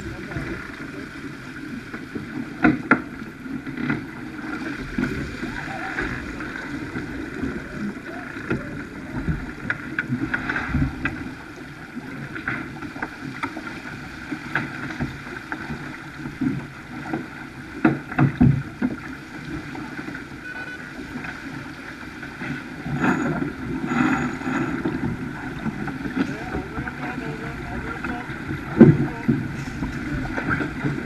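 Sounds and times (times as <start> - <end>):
water rushing along hull: 0.0 - 31.0.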